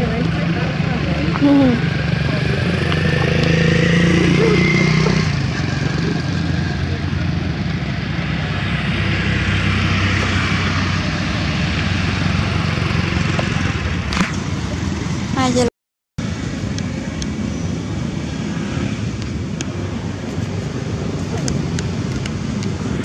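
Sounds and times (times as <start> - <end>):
passing motor vehicle engine: 0.0 - 23.0.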